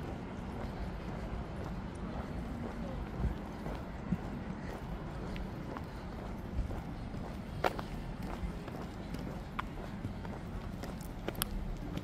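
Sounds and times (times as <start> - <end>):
footsteps on pavement: 0.0 - 12.0.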